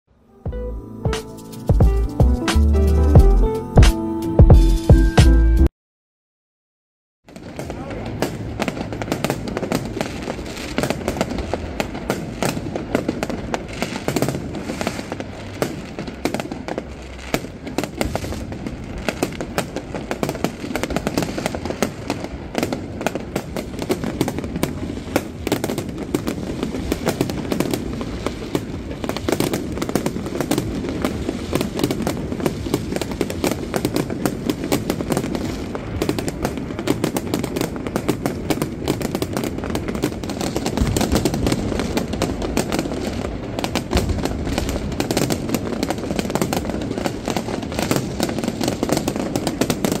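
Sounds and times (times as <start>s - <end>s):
fireworks bangs and crackling: 7.2s - 50.0s.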